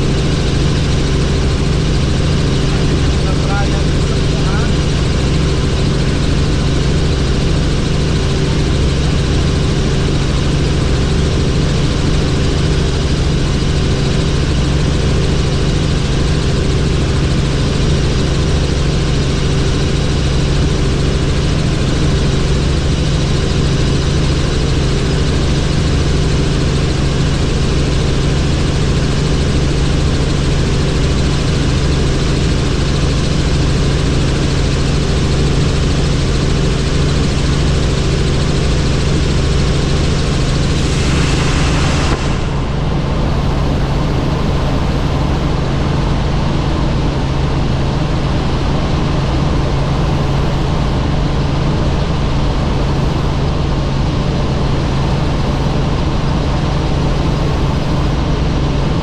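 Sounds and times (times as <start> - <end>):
helicopter engine and rotors: 0.0 - 59.0.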